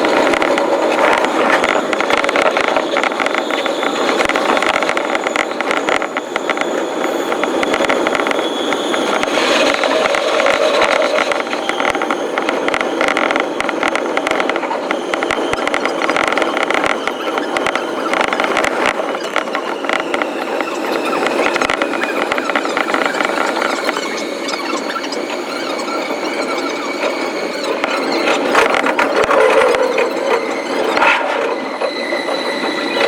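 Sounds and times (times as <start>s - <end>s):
train wheels rattling on rail: 0.0s - 33.0s.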